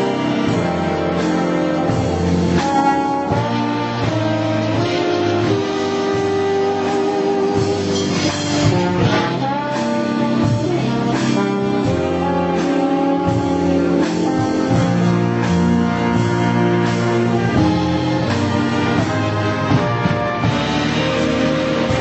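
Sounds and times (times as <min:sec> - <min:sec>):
dance band playing slow ballad: 0:00.0 - 0:22.0
trombone melody: 0:00.0 - 0:22.0.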